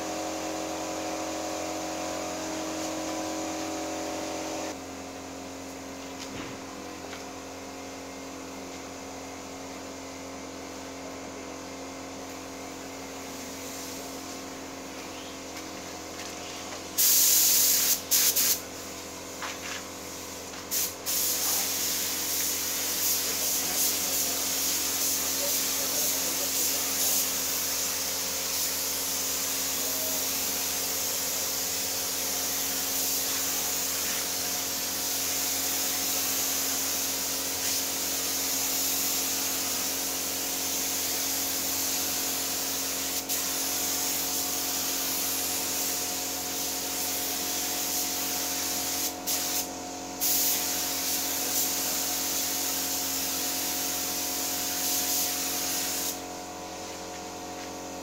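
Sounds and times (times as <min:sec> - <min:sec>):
spray gun hissing: 0:00.0 - 0:04.8, 0:13.2 - 0:14.5, 0:16.4 - 0:18.9, 0:20.0 - 0:57.9.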